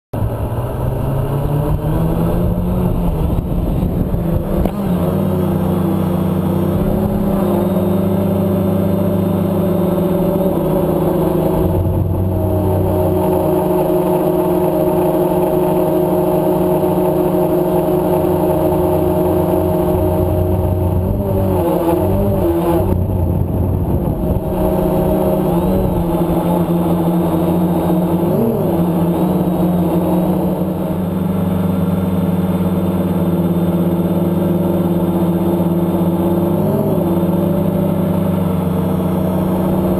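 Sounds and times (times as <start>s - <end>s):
quadcopter propellers buzzing: 0.2s - 39.9s.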